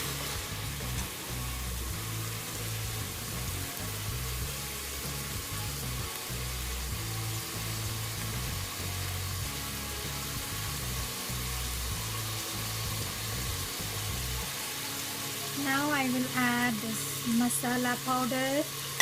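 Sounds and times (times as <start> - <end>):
background music with bass line: 0.0 - 15.8
food sizzling in oil in a pan: 0.0 - 19.0.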